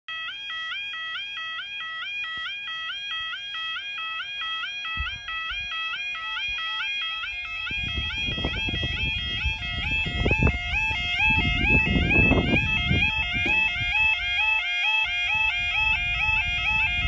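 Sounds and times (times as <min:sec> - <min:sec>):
level crossing alarm warbling: 0:00.1 - 0:17.0.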